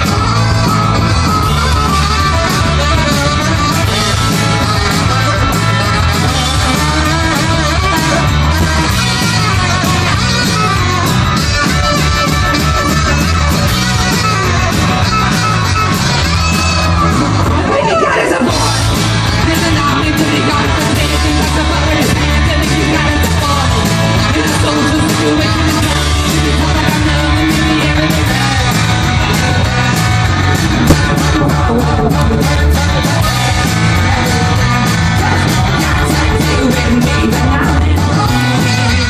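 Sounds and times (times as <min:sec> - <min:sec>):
live rock band playing: 0:00.0 - 0:39.0
saxophone: 0:00.0 - 0:39.0.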